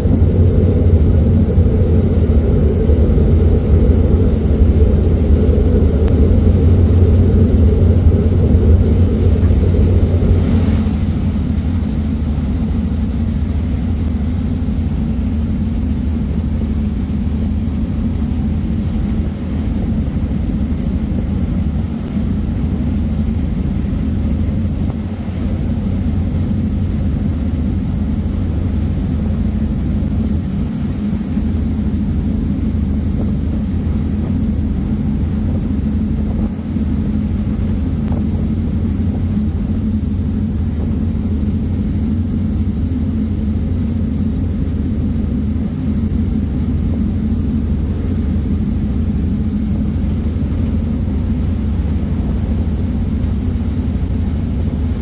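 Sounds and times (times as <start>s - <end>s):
ferry engines rumbling: 0.0s - 55.0s
water noise: 0.0s - 55.0s
wind noise: 0.0s - 55.0s.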